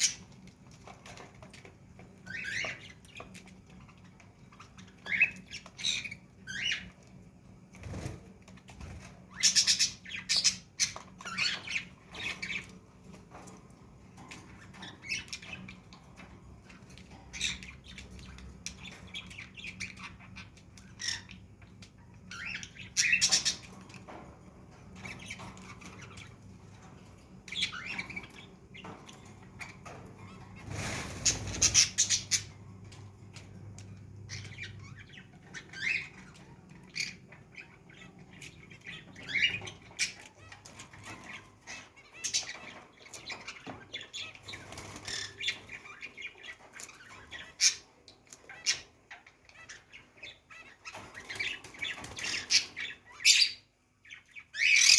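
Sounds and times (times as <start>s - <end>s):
birds squawking and chirping: 0.0s - 54.9s.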